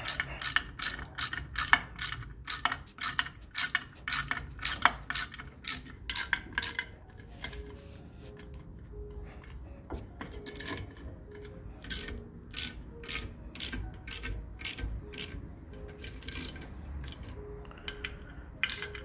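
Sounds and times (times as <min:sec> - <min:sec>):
steel hand tools clicking: 0:00.0 - 0:07.7, 0:10.3 - 0:19.0.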